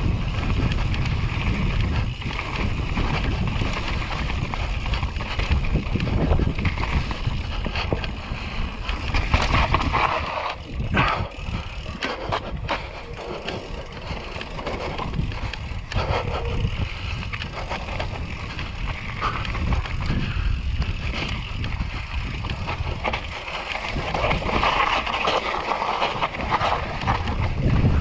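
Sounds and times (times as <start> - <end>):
bike rattling over bumps: 0.0 - 28.0
bike tyres rolling over dirt: 0.0 - 28.0
wind rumble on microphone: 0.0 - 28.0.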